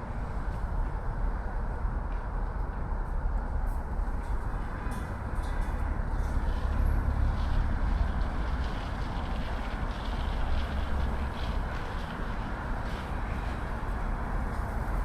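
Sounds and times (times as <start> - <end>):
heavy road traffic roar: 0.0 - 15.0.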